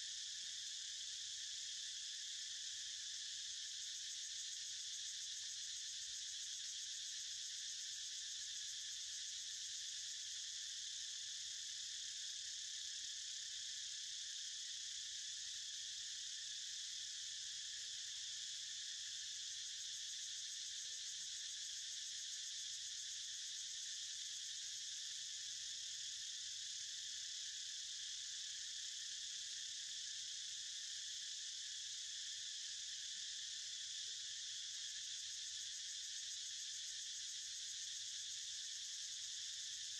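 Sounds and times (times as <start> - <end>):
insect chorus high-pitched drone: 0.0 - 39.9.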